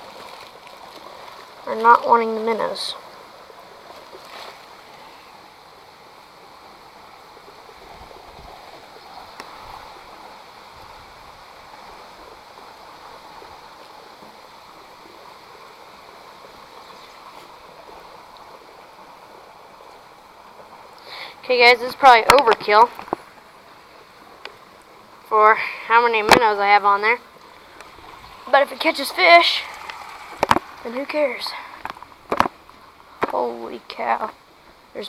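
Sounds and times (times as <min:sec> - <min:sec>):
creek water running: 0:00.0 - 0:35.0.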